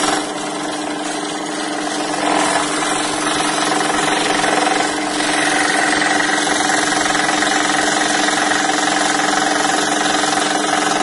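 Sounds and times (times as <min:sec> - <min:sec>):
scroll saw cutting plywood: 0:00.0 - 0:11.0.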